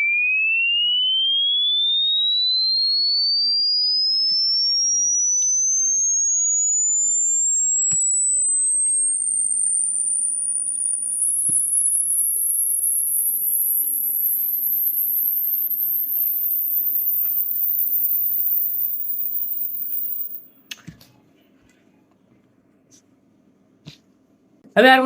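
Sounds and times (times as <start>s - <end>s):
sine tone sweeping upward: 0.0s - 20.6s.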